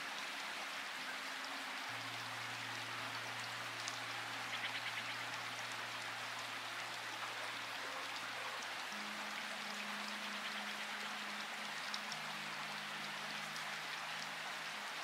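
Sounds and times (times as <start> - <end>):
soft low music chords: 0.0 - 15.0
steady rain: 0.0 - 15.0.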